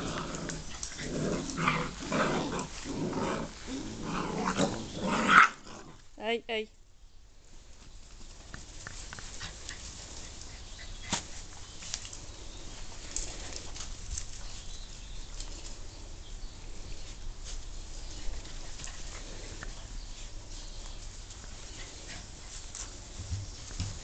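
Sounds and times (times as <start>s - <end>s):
puppies rustling in long grass: 0.0s - 6.3s, 7.2s - 24.0s.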